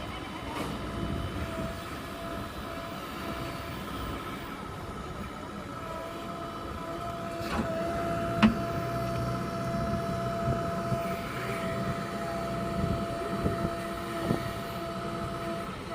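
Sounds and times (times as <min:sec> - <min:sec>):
heavy vehicle whine and rumble: 0:00.0 - 0:15.9.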